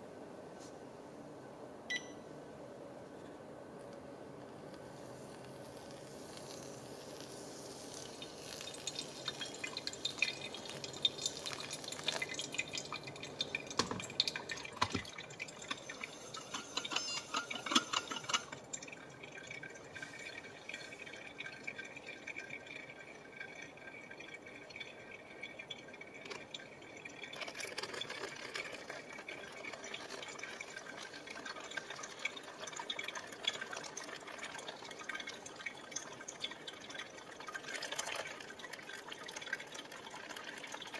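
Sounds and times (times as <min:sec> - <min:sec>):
water pouring in a thin stream: 0:05.1 - 0:16.9, 0:17.6 - 0:40.9.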